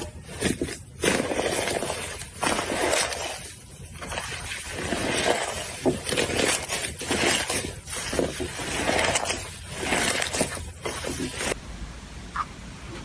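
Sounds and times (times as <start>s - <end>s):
slime crackling and popping: 0.0s - 11.6s.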